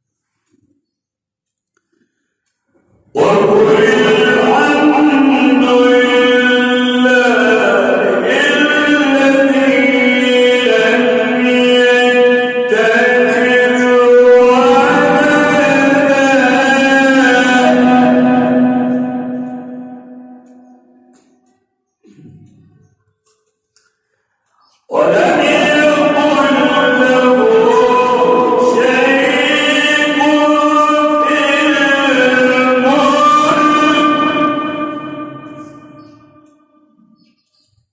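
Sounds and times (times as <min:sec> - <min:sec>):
man reciting in melodic chant: 0:00.0 - 0:37.9.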